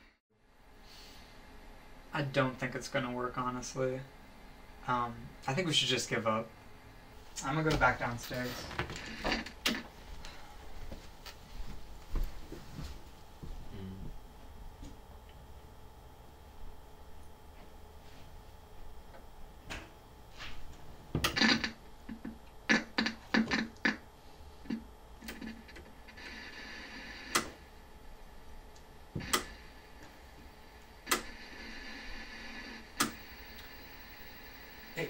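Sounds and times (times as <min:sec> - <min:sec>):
television static hiss: 0:02.0 - 0:14.2, 0:18.7 - 0:35.0.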